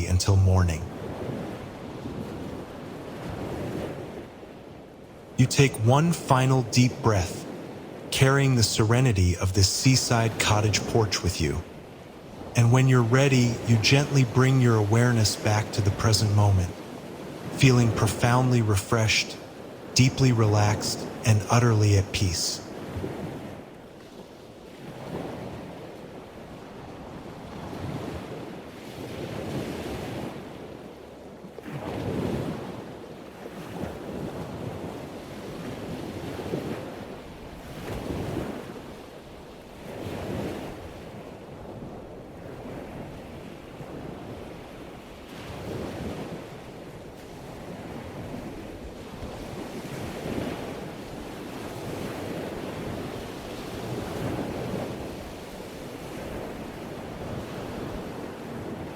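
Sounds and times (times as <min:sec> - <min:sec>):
ocean waves on shore: 0:00.0 - 0:58.9.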